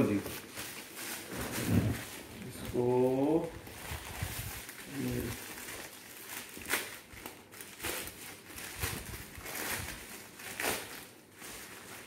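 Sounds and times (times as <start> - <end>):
plastic bag rustling and tearing: 0.0 - 12.0.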